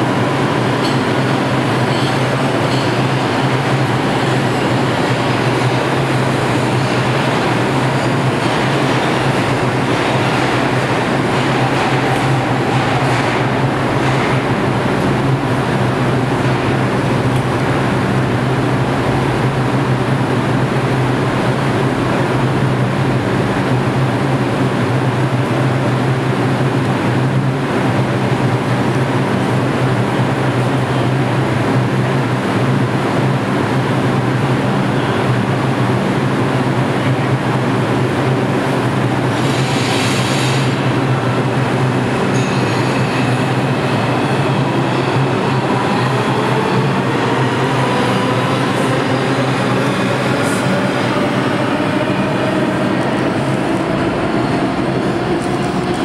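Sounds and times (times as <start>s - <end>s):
subway train rumble: 0.0s - 56.0s.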